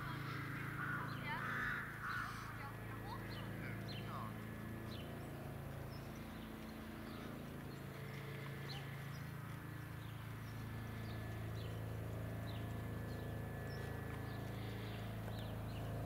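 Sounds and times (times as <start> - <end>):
distant helicopter in flight: 0.0 - 16.0.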